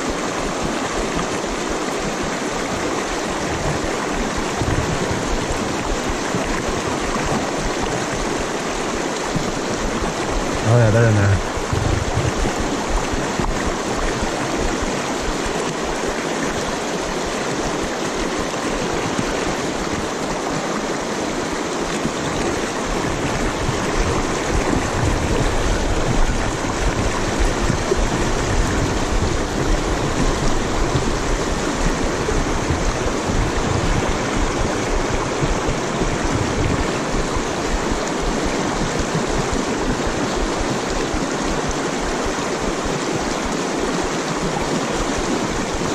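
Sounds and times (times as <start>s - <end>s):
water rushing over stones: 0.0s - 45.9s.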